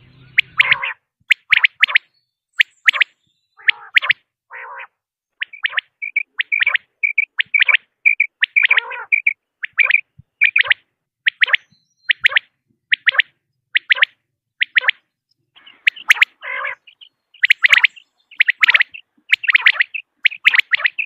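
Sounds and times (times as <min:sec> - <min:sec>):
quail calling: 0:00.0 - 0:21.0.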